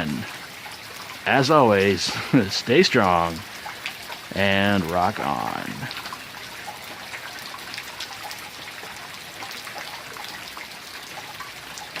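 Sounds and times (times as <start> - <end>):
raindrops ticking: 0.0 - 12.0
steady rain: 0.0 - 12.0.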